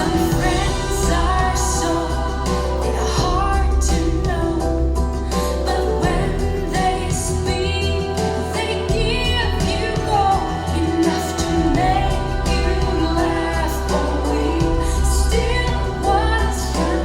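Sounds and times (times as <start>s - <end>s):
deep bass line: 0.0s - 17.0s
person singing: 0.0s - 17.0s
slow song over loudspeakers: 0.0s - 17.0s.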